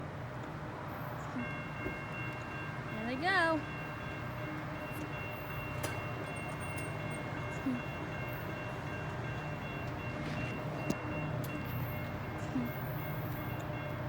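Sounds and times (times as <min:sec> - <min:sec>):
diesel locomotive rumbling: 0:00.0 - 0:14.0
faint steady tones: 0:00.0 - 0:14.0.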